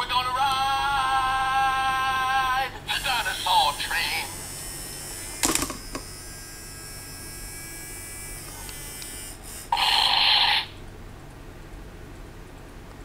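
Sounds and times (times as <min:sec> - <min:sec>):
turntable motor hum and whine: 0:00.0 - 0:13.0.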